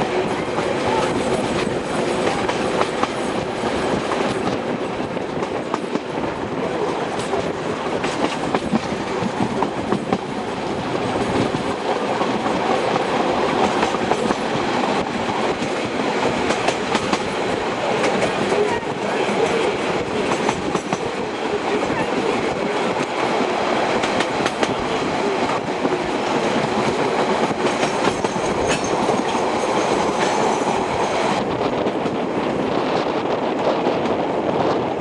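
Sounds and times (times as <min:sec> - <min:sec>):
train rumble: 0:00.0 - 0:35.0
wheels clicking on rails: 0:06.8 - 0:34.8.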